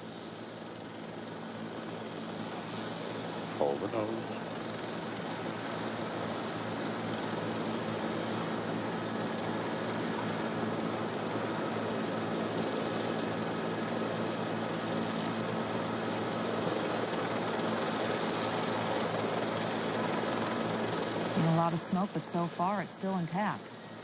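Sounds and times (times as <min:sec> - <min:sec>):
aircraft rushing drone: 0:00.0 - 0:24.0.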